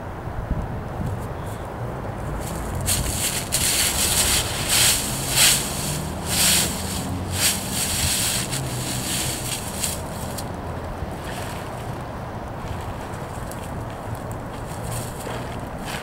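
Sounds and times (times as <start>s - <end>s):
wind buffeting microphone: 0.3s - 16.0s
footsteps crunching dry leaves: 2.3s - 12.0s, 12.6s - 16.0s.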